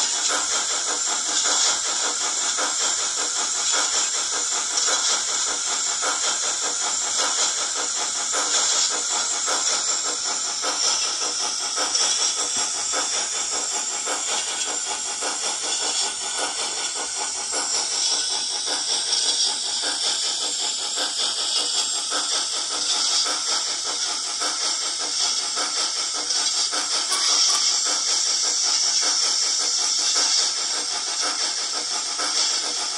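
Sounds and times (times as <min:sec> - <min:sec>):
steam locomotive chuffs from small speaker: 0:00.0 - 0:32.9.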